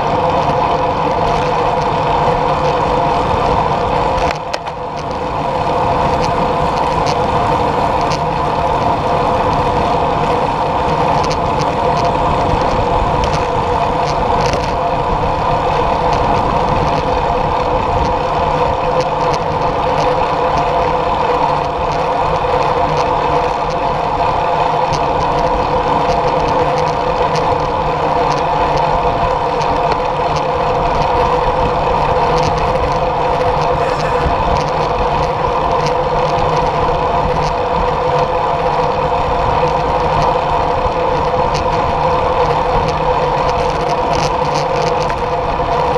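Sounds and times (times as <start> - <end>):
tyres rolling on asphalt: 0.0 - 45.9
wind rushing over microphone: 0.0 - 45.9.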